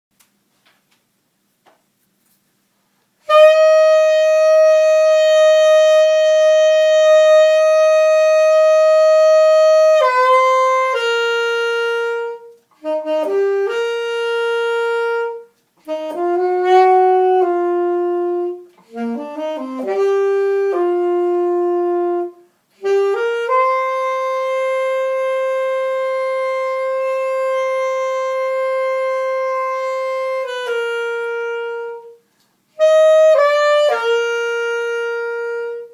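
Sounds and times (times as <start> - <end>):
saxophone solo: 3.2 - 35.9.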